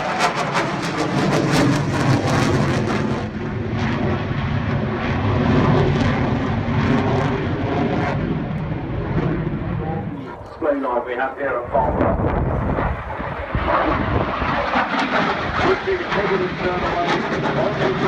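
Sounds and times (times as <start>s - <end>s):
jet engines crackling and rumbling: 0.0s - 18.0s.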